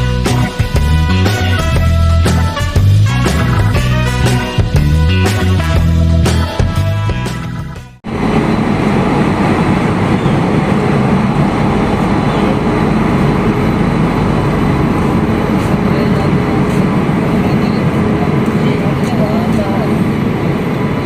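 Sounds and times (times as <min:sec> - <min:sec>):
train rumbling on rails: 0:00.0 - 0:06.9, 0:08.0 - 0:21.0.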